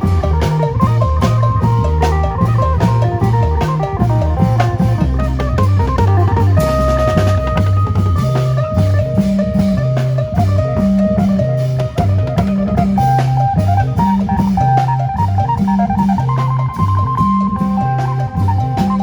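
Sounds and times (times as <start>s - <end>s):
bouncing bass line: 0.0s - 19.0s
drum kit beat: 0.0s - 19.0s
lute melody: 0.0s - 19.0s.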